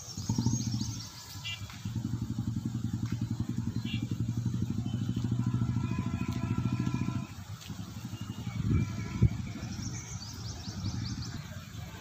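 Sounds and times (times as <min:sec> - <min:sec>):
bird chirping: 0:00.0 - 0:07.3, 0:08.0 - 0:11.9
faint low engine hum: 0:00.0 - 0:12.0
loud pulsing engine: 0:00.0 - 0:12.0.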